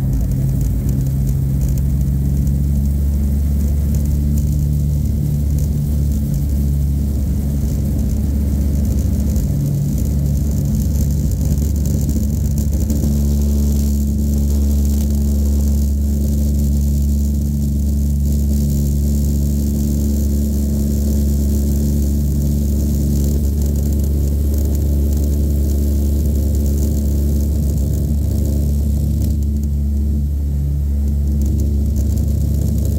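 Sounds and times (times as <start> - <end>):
propeller plane engines droning: 0.0 - 32.9.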